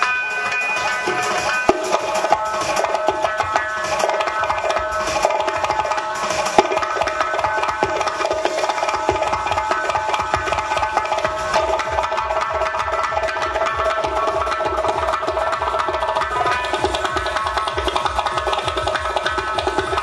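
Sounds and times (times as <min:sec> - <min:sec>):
frame drums playing fast rhythm: 0:00.0 - 0:20.0.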